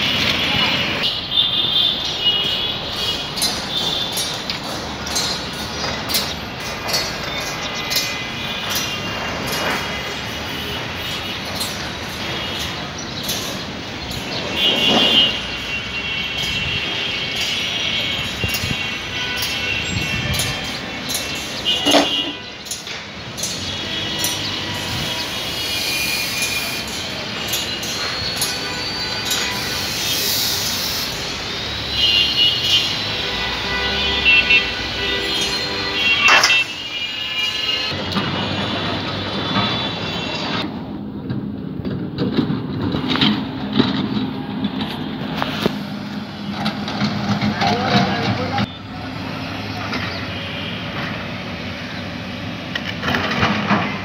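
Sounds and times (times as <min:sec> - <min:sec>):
vehicle engines running: 0:00.0 - 0:32.0, 0:37.8 - 0:54.0
city traffic noise: 0:00.0 - 0:54.0.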